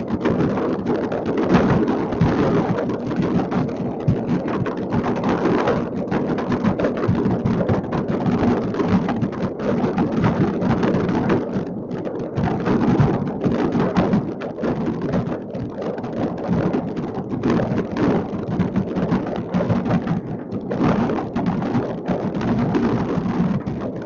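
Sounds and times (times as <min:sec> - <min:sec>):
distant fireworks crackling and booming: 0:00.0 - 0:24.0.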